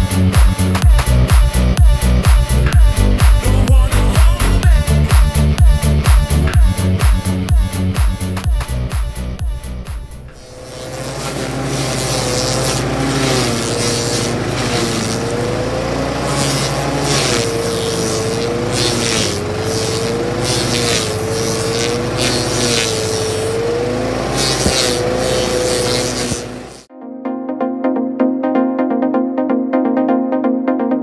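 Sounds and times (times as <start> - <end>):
cutting wheel grinding wood: 0.0 - 26.9
petrol engine running hard: 0.0 - 26.9.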